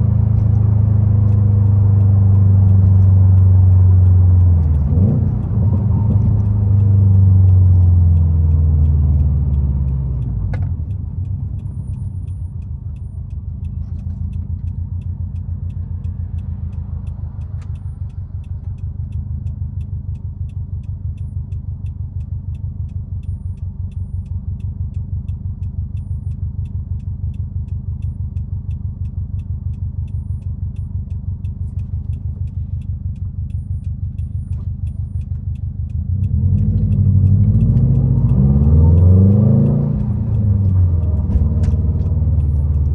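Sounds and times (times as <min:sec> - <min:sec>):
car engine revving under load: 0:00.0 - 0:42.9.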